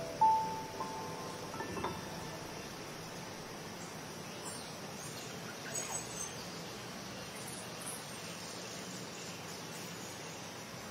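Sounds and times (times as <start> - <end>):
insects hissing: 0.0 - 10.9.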